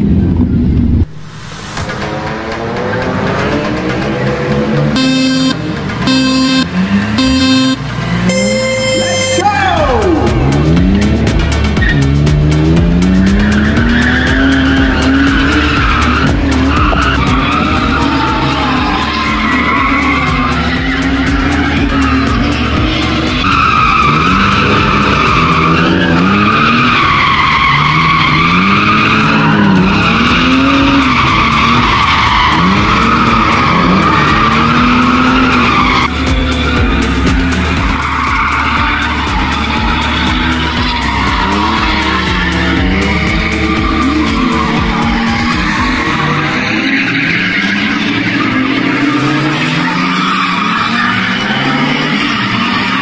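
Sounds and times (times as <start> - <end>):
car engine revving: 0.0 - 53.0
music with low beat: 0.8 - 46.5
tyres squealing: 8.3 - 53.0.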